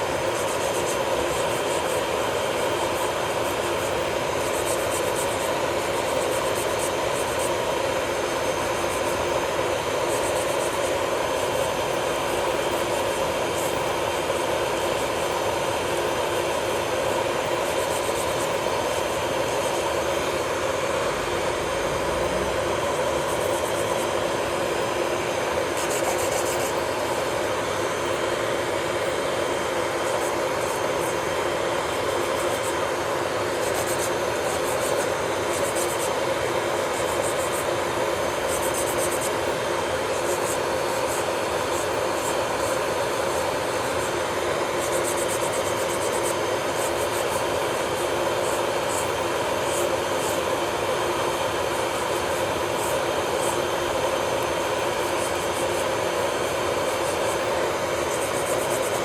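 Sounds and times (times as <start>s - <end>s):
electric nail drill whining: 0.0s - 59.0s.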